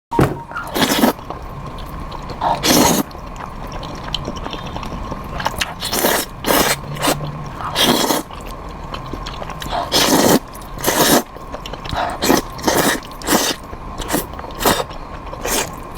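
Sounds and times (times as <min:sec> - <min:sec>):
biting and chewing: 0:00.5 - 0:15.9.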